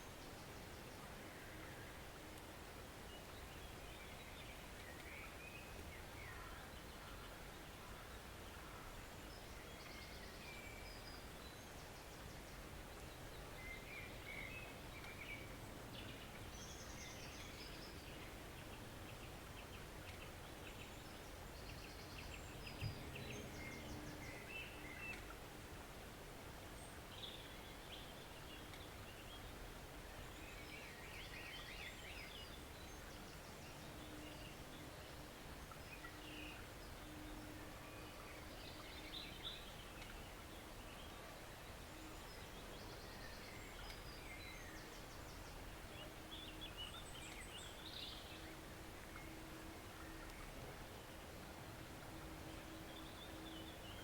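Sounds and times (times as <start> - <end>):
songbirds chirping: 0.0 - 54.0
stream running: 0.0 - 54.0.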